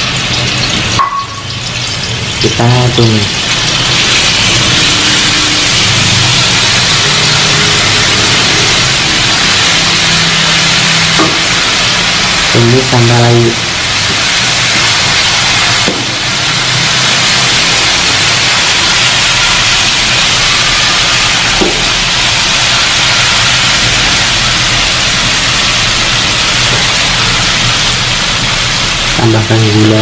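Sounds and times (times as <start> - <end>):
spice paste sizzling in hot oil: 0.0 - 30.0.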